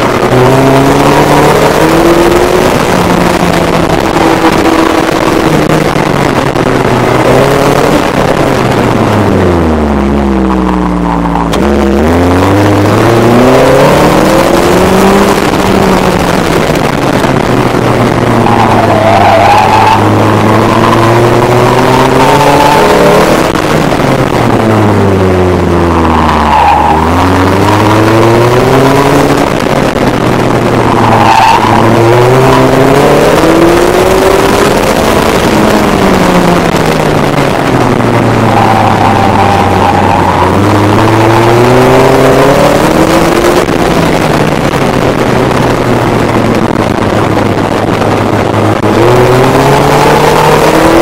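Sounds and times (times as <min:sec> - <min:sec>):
car engine revving: 0:00.0 - 0:51.0
wind and road noise: 0:00.0 - 0:51.0.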